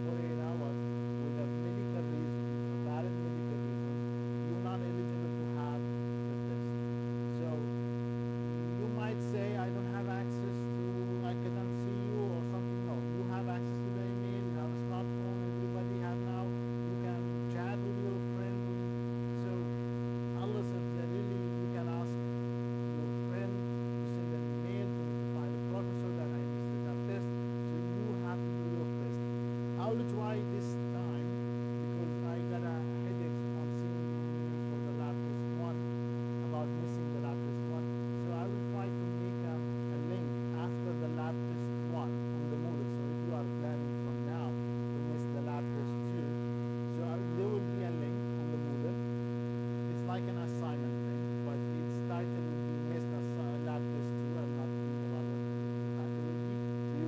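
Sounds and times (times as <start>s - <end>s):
electrical mains hum: 0.0s - 57.0s
faint background sounds: 0.0s - 57.0s.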